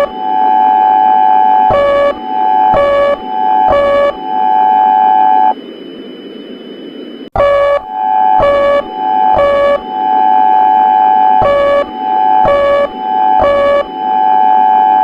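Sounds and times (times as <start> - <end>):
buzzy electronic alarm tone: 0.0 - 5.6, 7.3 - 15.0.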